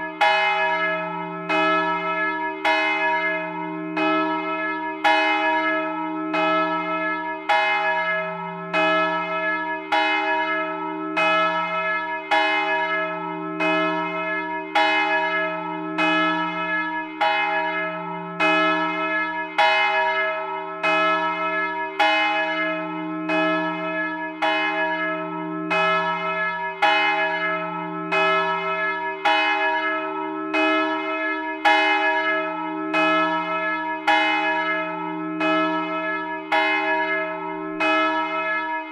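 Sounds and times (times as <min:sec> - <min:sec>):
church bell tolling: 0:00.0 - 0:38.9.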